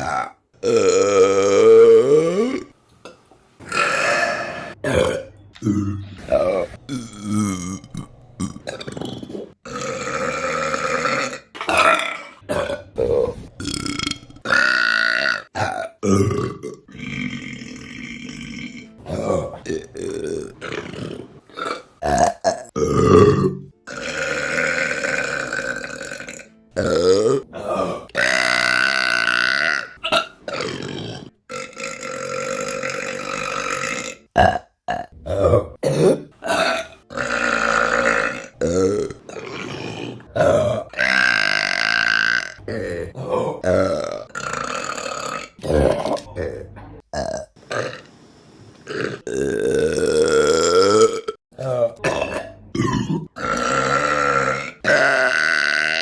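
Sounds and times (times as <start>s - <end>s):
women burping: 0.0s - 2.8s, 3.7s - 48.0s, 49.2s - 56.0s.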